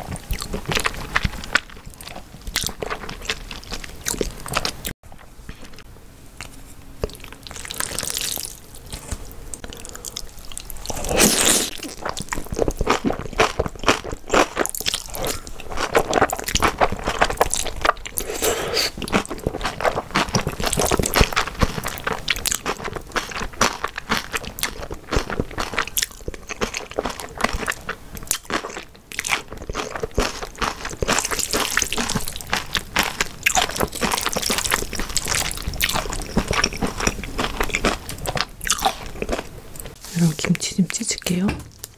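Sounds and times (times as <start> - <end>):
wet crunchy chewing: 0.0 - 40.0.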